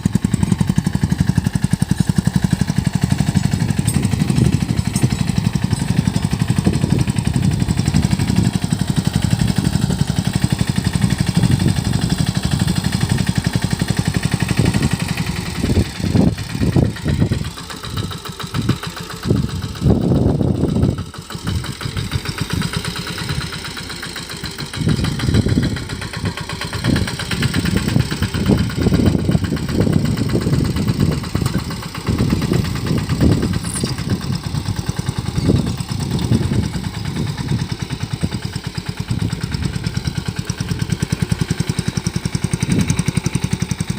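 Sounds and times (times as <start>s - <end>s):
mini tractor engine running: 0.0s - 43.9s.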